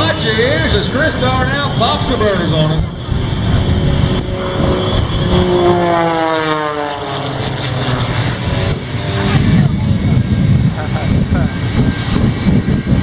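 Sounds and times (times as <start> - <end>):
aircraft passing by: 0.0 - 13.0
jet engines roaring: 0.0 - 13.0.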